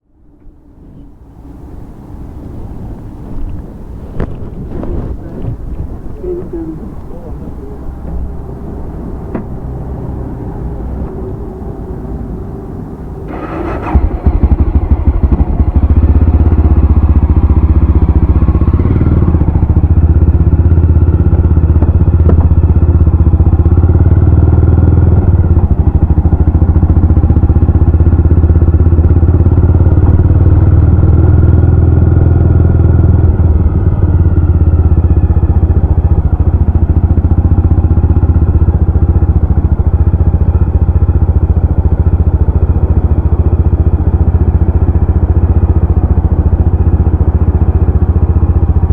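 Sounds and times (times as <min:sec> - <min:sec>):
motorcycle engine running: 0:02.4 - 0:48.9.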